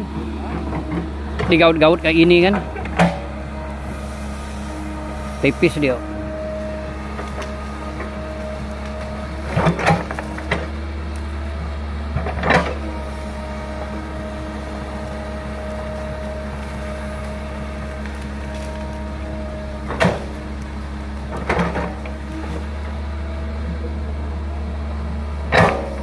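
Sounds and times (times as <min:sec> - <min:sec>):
bucket scraping and crackling roots: 0:00.0 - 0:26.0
excavator diesel engine running: 0:00.0 - 0:26.0.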